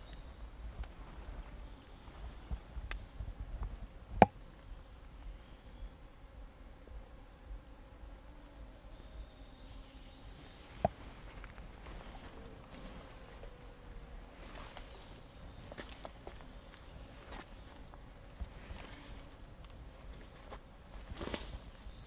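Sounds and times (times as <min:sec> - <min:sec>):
forest ambience: 0:00.0 - 0:22.0.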